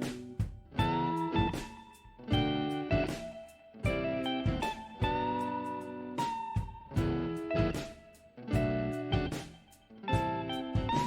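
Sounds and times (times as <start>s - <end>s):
ringing guitar chords: 0.0s - 11.0s.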